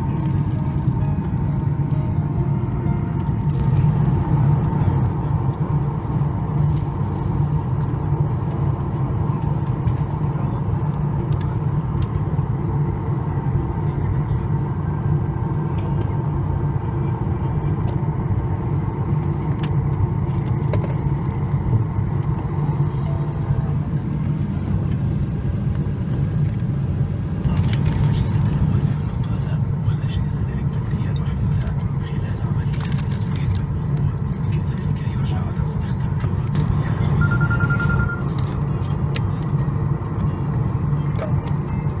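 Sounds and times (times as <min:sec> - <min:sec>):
airplane cabin hum: 0:00.0 - 0:42.0.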